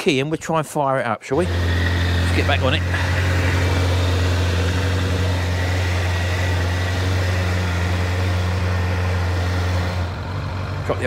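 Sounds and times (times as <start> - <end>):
motorcycle engine idling: 1.4 - 11.0.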